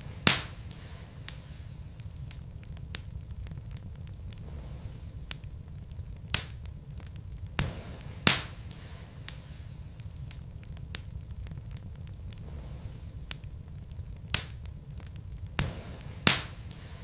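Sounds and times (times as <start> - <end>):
logs crackling: 0.0 - 17.0
low rumble of flames: 0.0 - 17.0
sharp pops of fire: 0.0 - 17.0.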